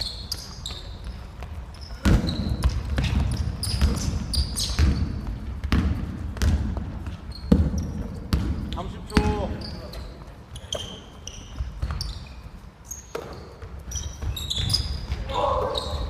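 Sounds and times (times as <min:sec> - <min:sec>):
basketball bouncing on gym floor: 0:00.0 - 0:16.0
sneakers squeaking on court: 0:00.0 - 0:16.0.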